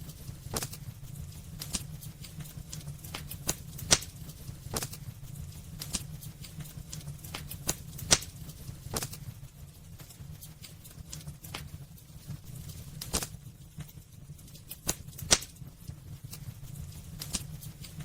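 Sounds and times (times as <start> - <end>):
low steady rumble: 0.0 - 18.0
wood fire crackling and popping: 0.0 - 18.0.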